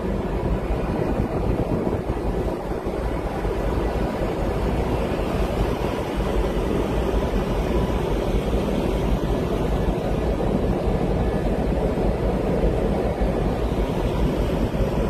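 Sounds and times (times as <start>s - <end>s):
boat engine rumbling: 0.0s - 15.0s
wind over microphone: 0.0s - 15.0s.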